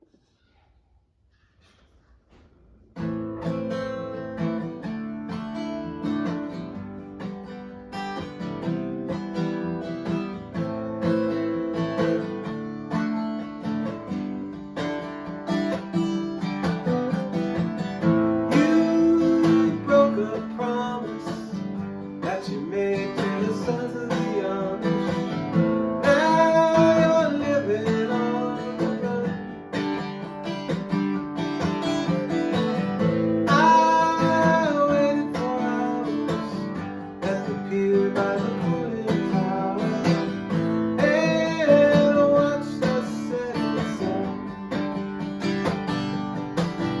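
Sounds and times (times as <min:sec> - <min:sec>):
acoustic guitar music: 0:02.3 - 0:47.0.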